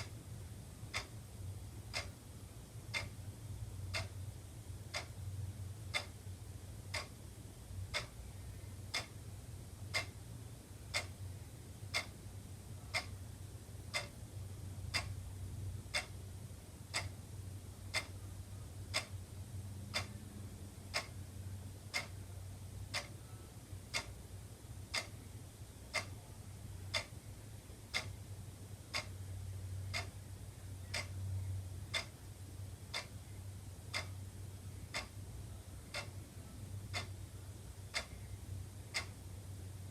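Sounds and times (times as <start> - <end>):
low steady hum: 0.0 - 39.9
wall clock ticking: 0.0 - 39.9.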